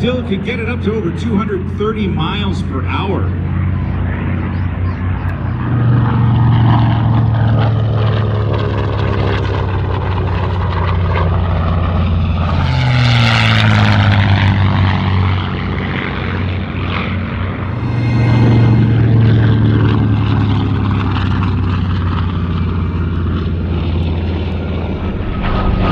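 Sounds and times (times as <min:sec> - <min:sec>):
propeller plane flyby: 0:00.0 - 0:25.9.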